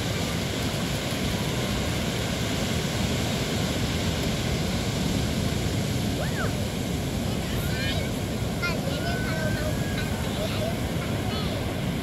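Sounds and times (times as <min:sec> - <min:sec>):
ocean surf breaking on sand: 0:00.0 - 0:12.0.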